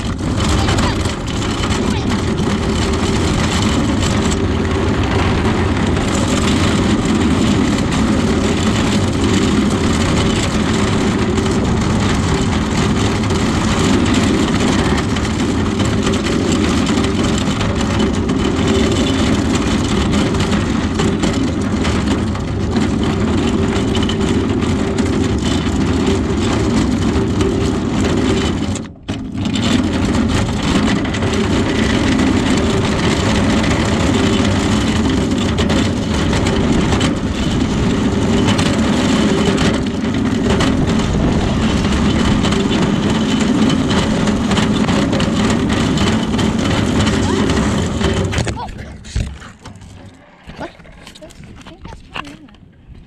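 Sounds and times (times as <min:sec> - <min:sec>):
vehicle road and engine rumble: 0:00.0 - 0:53.0.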